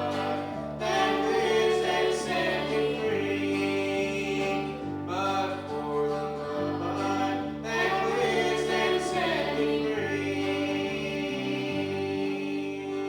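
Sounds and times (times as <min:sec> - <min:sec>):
gospel music: 0:00.0 - 0:13.0
voices singing: 0:00.0 - 0:13.0.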